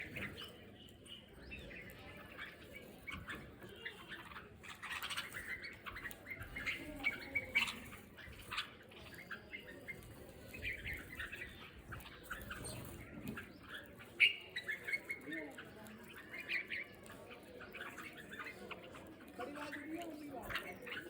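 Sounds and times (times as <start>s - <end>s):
flock of birds chirping and squawking: 0.0s - 21.0s.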